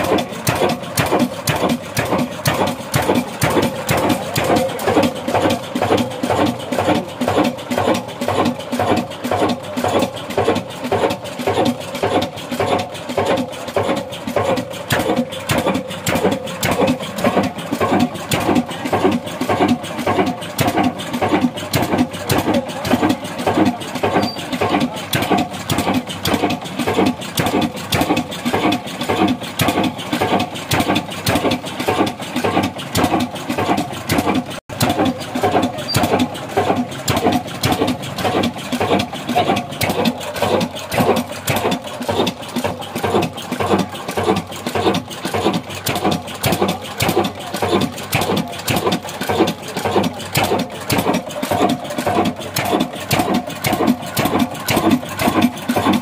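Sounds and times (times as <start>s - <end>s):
stationary engine running: 0.0s - 56.0s.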